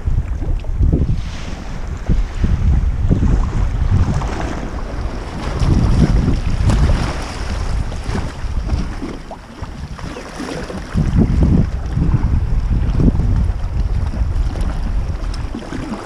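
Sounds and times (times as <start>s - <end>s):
water splashing around kayak: 0.0s - 16.0s
wind buffeting microphone: 0.0s - 16.0s.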